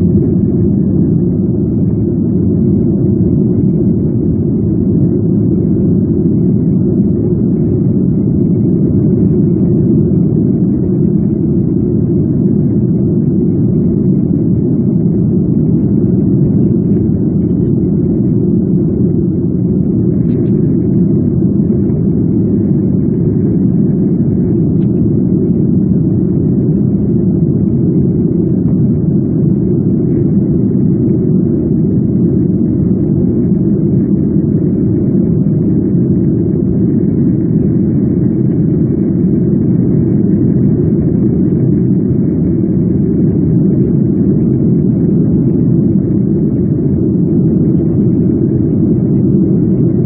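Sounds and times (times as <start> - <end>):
jet engine cabin rumble: 0.0 - 50.0.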